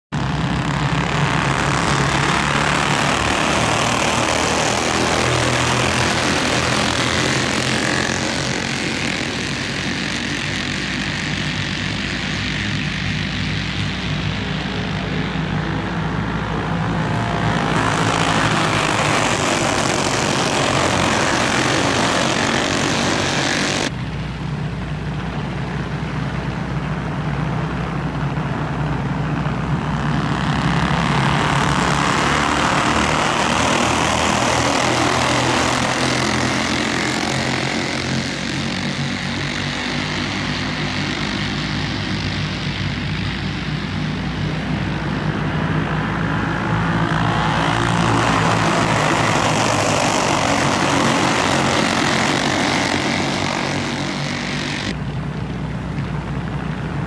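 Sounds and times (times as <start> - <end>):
kart engines droning: 0.0 - 57.0.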